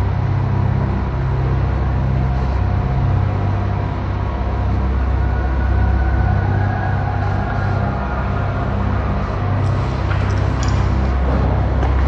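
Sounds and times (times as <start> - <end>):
dark ambient industrial music: 0.0 - 12.0.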